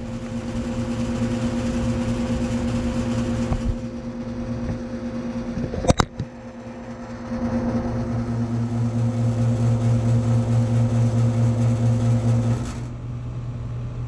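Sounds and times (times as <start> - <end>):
sharp clatter: 0.0 - 13.0
air conditioner compressor hum: 0.0 - 14.0
condenser fan: 0.0 - 14.0.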